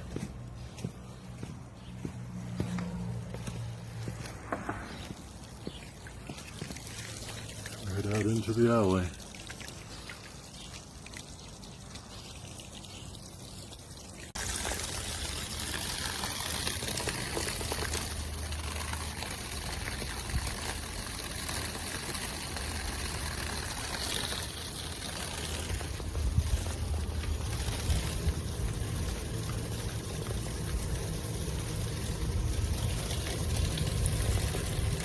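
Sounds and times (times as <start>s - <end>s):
pump hum: 0.0s - 35.0s
water pouring from hose: 3.4s - 35.0s.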